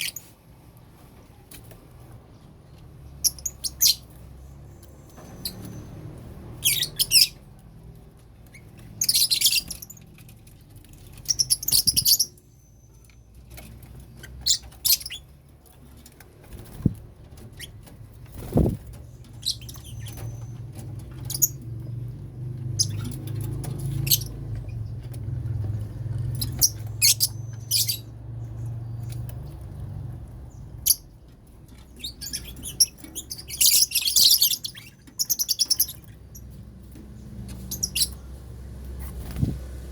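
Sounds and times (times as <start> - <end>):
lovebirds chirping: 0.0 - 0.3, 2.3 - 5.9, 6.6 - 7.5, 8.4 - 15.4, 17.6 - 39.4.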